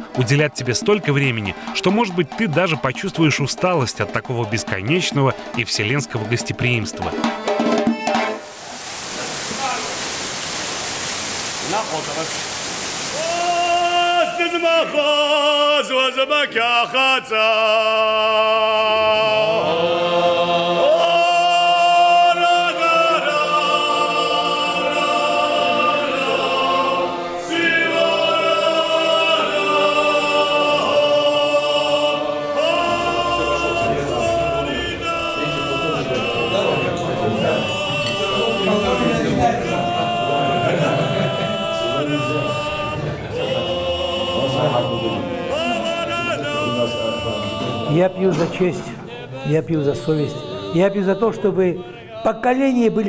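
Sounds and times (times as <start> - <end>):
men singing in harmony: 0.0 - 8.6, 13.1 - 53.0.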